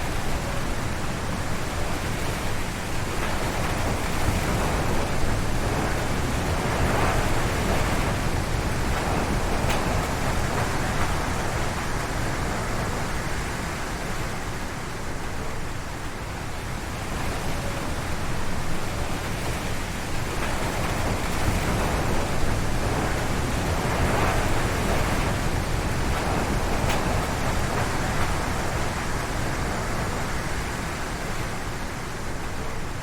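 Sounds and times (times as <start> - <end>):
wind howling through trees: 0.0 - 33.0.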